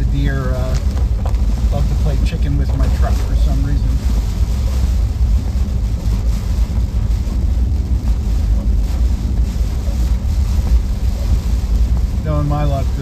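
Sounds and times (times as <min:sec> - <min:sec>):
engine and tyres rumbling: 0:00.0 - 0:13.0.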